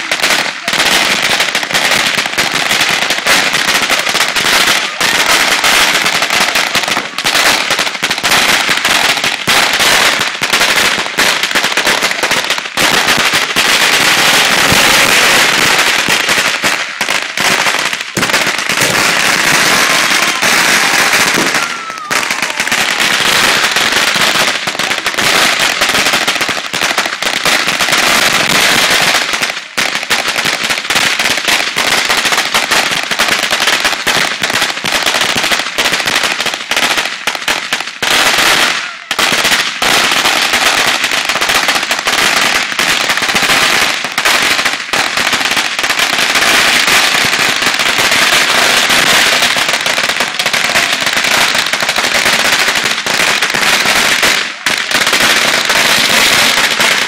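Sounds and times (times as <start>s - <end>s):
firework fountains hissing and crackling: 0.0s - 57.0s.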